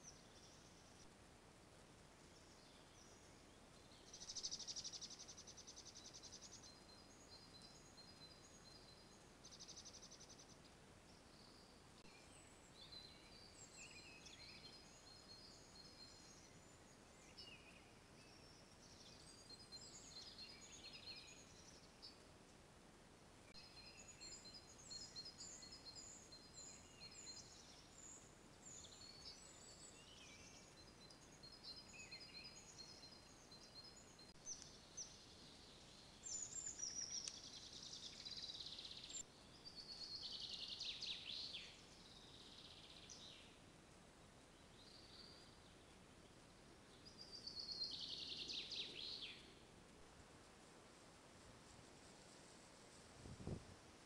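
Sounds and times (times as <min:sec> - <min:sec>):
songbirds singing: 0:00.0 - 0:01.2, 0:02.1 - 0:22.6, 0:23.4 - 0:50.2
faint hiss: 0:00.0 - 0:54.0.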